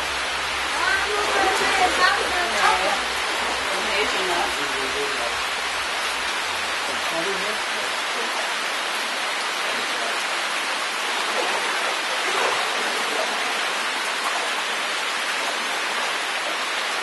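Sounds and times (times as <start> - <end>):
rain on water surface: 0.0 - 17.0.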